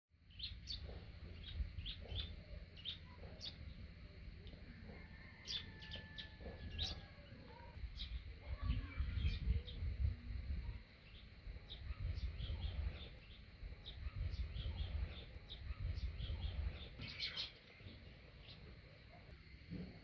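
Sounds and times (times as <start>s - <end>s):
low rumbling noise: 0.2s - 20.0s
small birds chirping: 0.2s - 20.0s.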